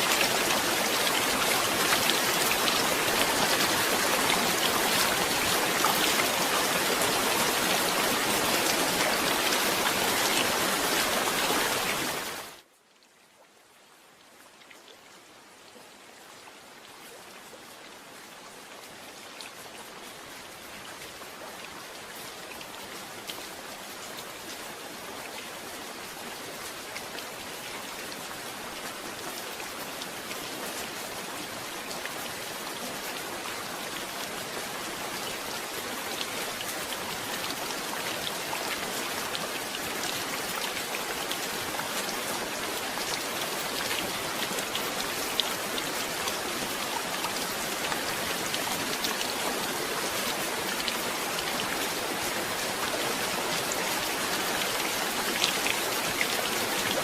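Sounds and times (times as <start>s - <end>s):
heavy rain: 0.0s - 14.6s, 15.2s - 57.0s.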